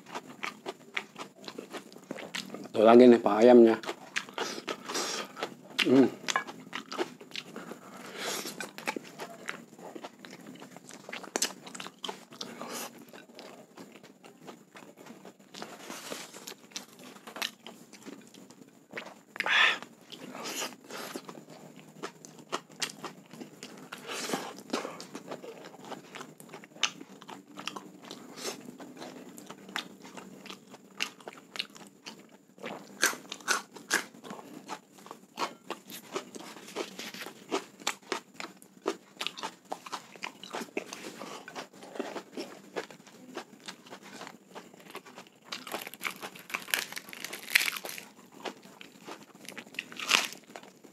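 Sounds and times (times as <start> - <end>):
close chewing and crunching: 0.0 - 50.9.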